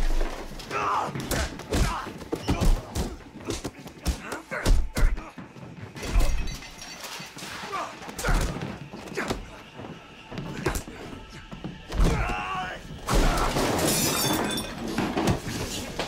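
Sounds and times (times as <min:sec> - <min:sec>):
people grunting and crying out: 0:00.0 - 0:06.5, 0:07.4 - 0:14.6.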